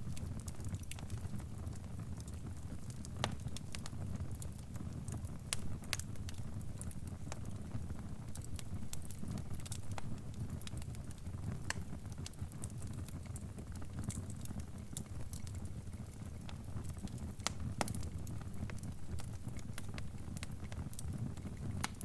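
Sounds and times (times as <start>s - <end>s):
fire pops and snaps: 0.0s - 22.0s
low rumble of fire: 0.0s - 22.0s.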